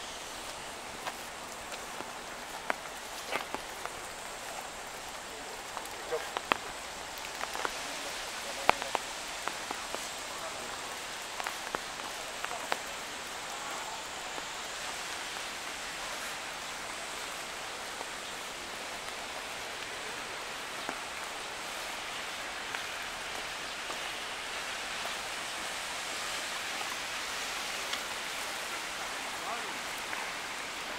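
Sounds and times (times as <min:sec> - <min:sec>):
water hissing: 0:00.0 - 0:30.9.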